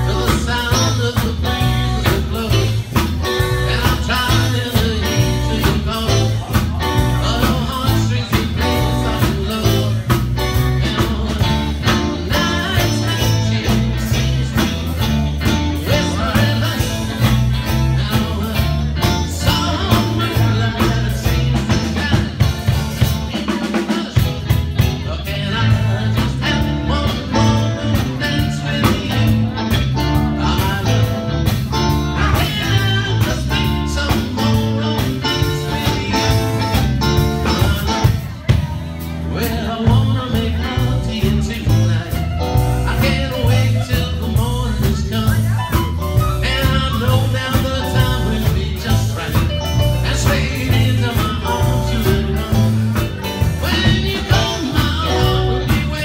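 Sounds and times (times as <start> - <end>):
drum kit beat: 0.0 - 56.0
electric guitars: 0.0 - 56.0
keyboards: 0.0 - 56.0
walking bass line: 0.0 - 56.0.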